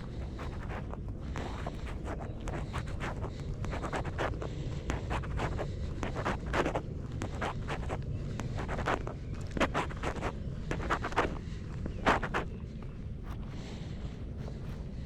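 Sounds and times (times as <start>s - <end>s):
footsteps on a path: 0.0s - 15.0s
wind rumble on microphone: 0.0s - 15.0s.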